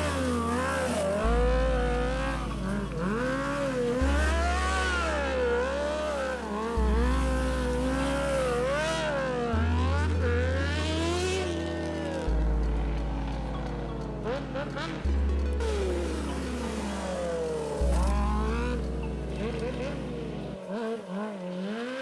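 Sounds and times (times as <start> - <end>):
music with steady bass line: 0.0 - 20.7
motorcycle revving: 0.0 - 22.0.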